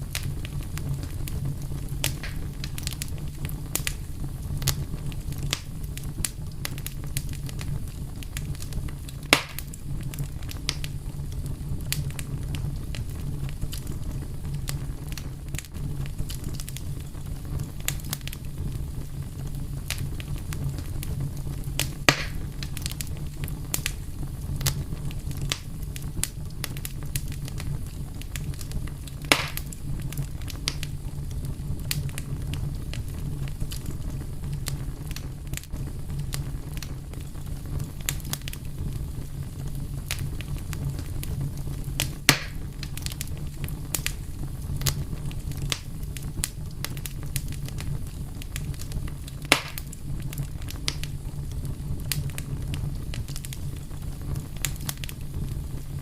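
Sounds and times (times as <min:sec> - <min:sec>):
fire pops: 0:00.0 - 0:56.0
wood fire crackling: 0:00.0 - 0:56.0.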